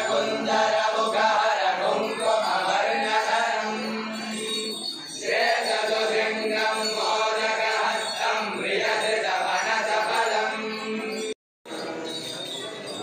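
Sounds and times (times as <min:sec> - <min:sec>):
group chanting a devotional song: 0:00.0 - 0:12.6.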